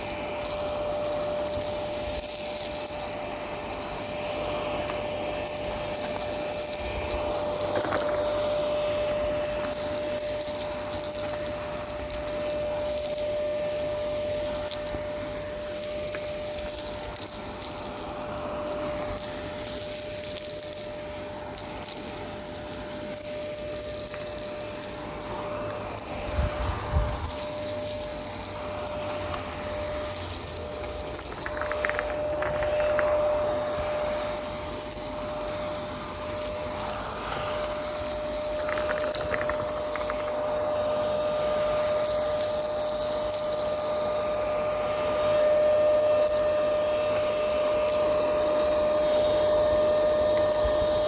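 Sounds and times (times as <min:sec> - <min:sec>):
crackles of grit sucked up: 0:00.0 - 0:51.0
vacuum cleaner whining: 0:00.0 - 0:51.0.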